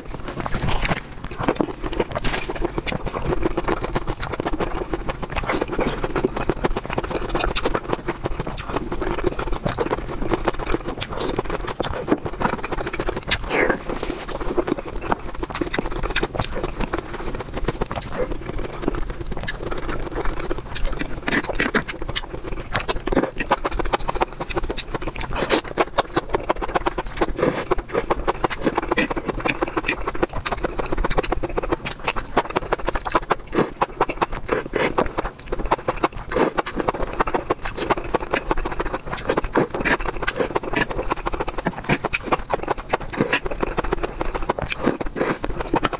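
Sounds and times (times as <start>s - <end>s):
slurping noodles: 0.0s - 45.9s
wet chewing and lip-smacking: 0.0s - 45.9s.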